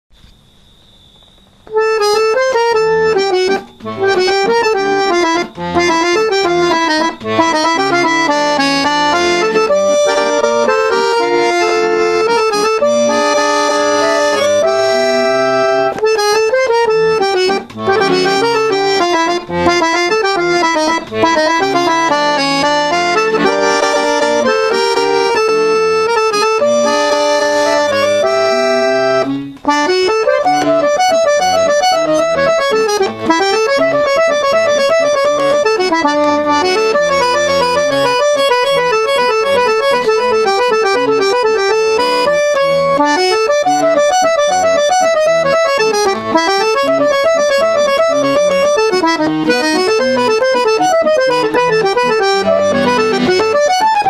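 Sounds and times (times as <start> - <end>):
tango music on squeezebox: 1.6 - 54.0.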